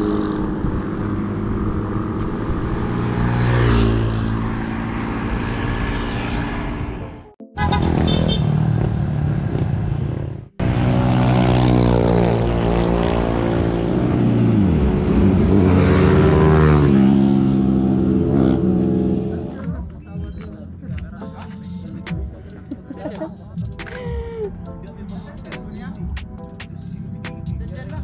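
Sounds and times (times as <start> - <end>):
cars and motorcycles passing: 0.0 - 28.0.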